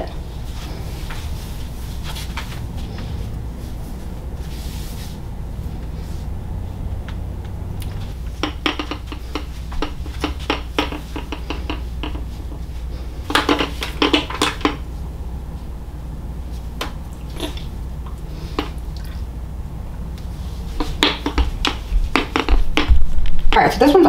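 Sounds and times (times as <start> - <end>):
air conditioner hum: 0.0 - 24.0.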